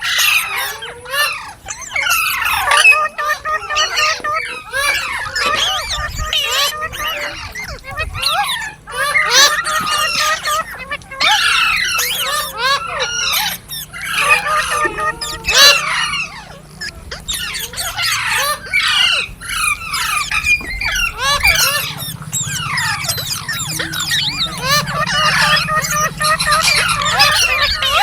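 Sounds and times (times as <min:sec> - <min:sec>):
parrots squawking and screeching: 0:00.0 - 0:28.0.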